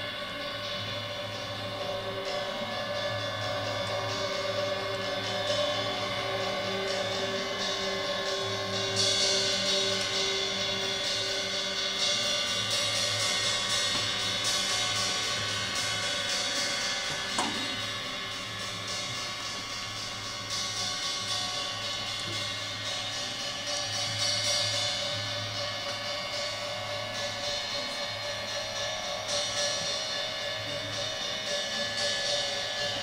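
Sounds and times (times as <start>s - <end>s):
low drone tones: 0.0s - 33.0s
shimmering cymbals: 0.0s - 33.0s.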